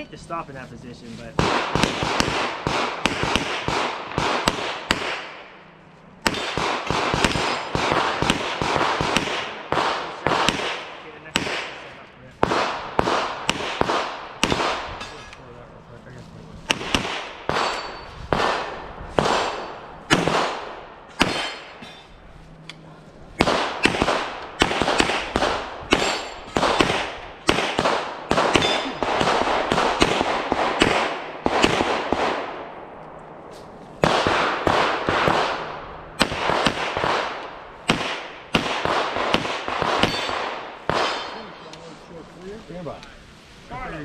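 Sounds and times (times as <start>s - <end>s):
rapid pistol shots: 1.4s - 15.0s, 16.7s - 21.8s, 23.4s - 32.8s, 34.0s - 41.5s.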